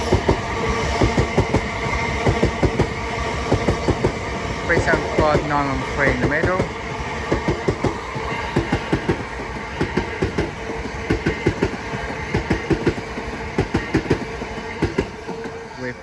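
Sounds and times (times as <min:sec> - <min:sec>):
train steady hum: 0:00.0 - 0:16.0
train wheels clacking: 0:00.0 - 0:16.0.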